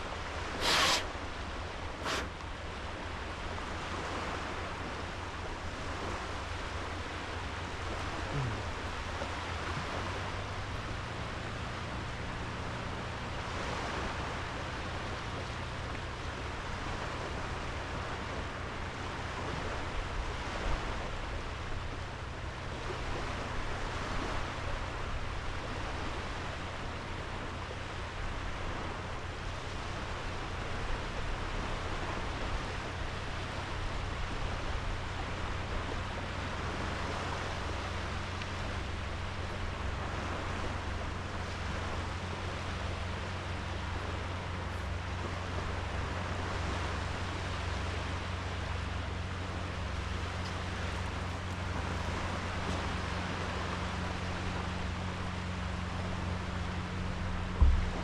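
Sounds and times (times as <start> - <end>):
waves washing onto sandy beach: 0.0 - 58.0.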